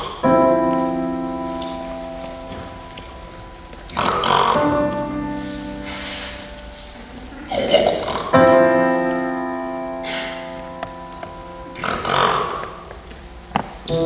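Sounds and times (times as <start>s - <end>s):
piano chords ringing: 0.0s - 14.0s.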